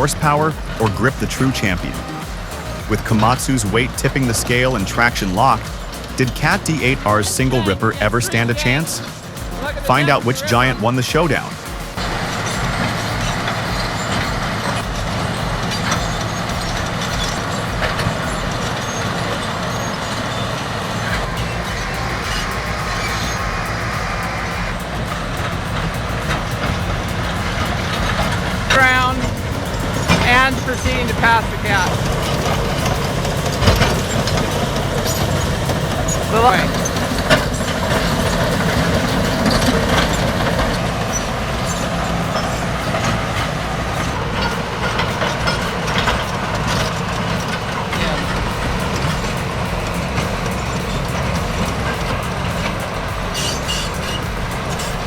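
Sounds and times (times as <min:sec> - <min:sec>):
bulldozer diesel engines running: 0:00.0 - 0:55.0
steel tracks clanking: 0:00.0 - 0:55.0.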